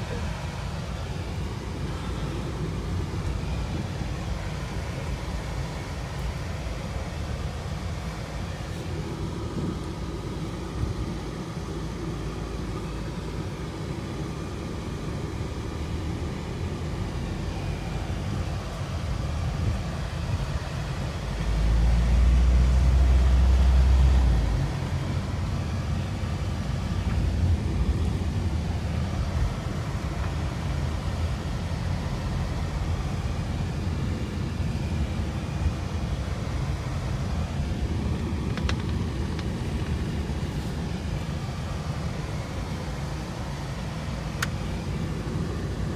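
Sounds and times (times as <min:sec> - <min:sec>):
car road rumble: 0:00.0 - 0:45.9.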